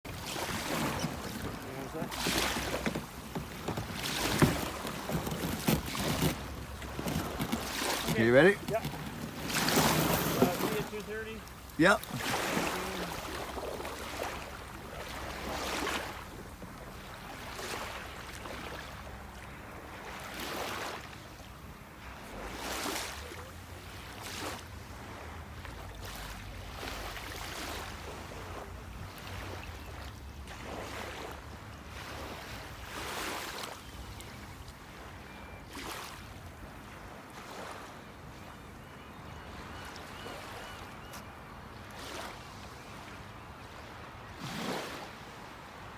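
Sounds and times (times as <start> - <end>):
kayak paddles splashing: 0.1 - 45.9.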